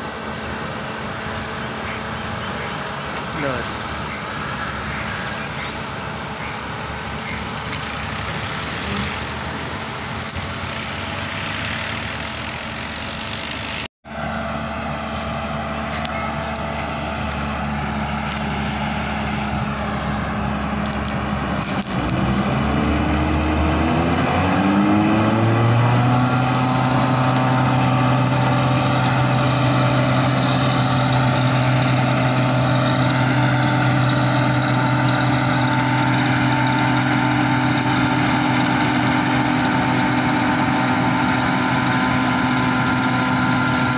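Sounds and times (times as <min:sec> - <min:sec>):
diesel engine running and revving: 0:00.0 - 0:43.9.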